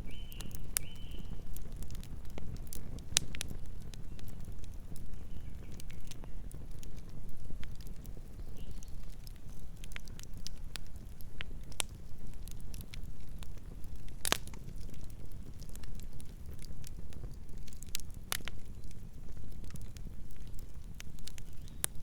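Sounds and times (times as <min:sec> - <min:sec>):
fire snapping and popping: 0:00.0 - 0:22.0
low rumble of burning: 0:00.0 - 0:22.0.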